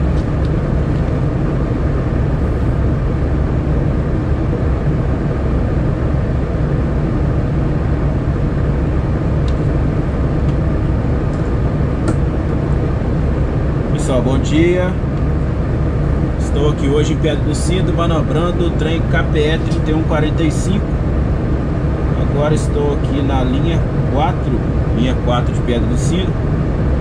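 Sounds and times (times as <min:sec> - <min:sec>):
diesel locomotive idling: 0:00.0 - 0:27.0.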